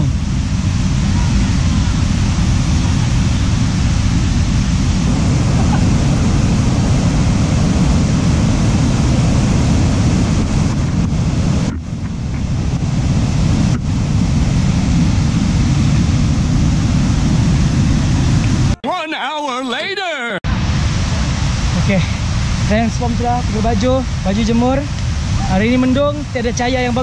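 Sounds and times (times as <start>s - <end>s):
river and waterfall rushing: 0.0s - 15.7s, 17.1s - 27.0s
wind rumble on microphone: 0.0s - 18.8s, 20.5s - 27.0s.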